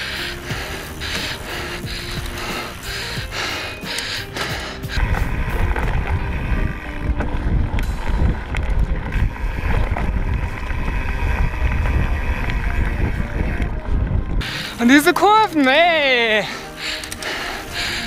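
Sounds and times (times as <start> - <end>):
wind buffeting microphone: 0.0 - 14.9
bike tyres rumbling over dirt: 0.0 - 15.1.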